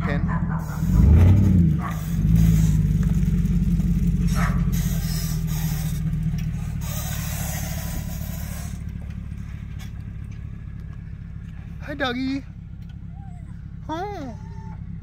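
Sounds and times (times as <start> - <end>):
suv engine driving past: 0.0 - 15.0.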